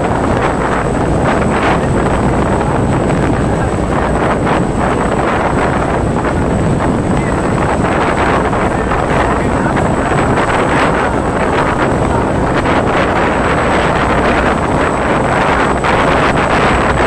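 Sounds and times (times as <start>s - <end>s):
low rumble of ship engines: 0.0s - 17.0s
wind buffeting microphone: 0.0s - 17.0s.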